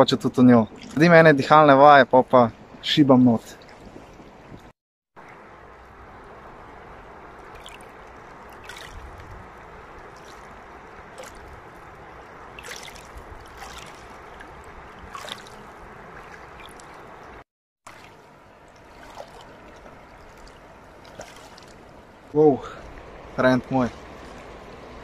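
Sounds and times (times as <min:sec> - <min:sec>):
river water running over pebbles: 0:00.5 - 0:01.7, 0:03.4 - 0:25.0
small water splashes: 0:00.6 - 0:01.5, 0:03.4 - 0:25.0.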